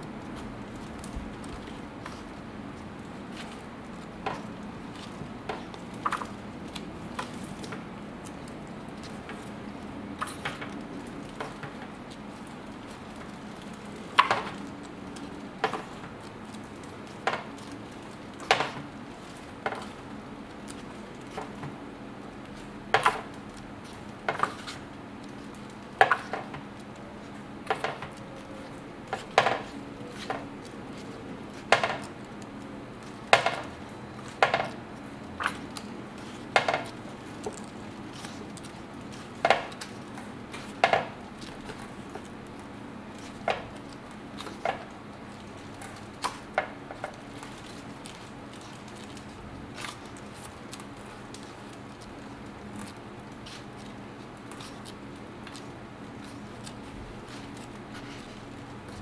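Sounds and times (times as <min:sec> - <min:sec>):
book pages turning: 0:00.2 - 0:59.0.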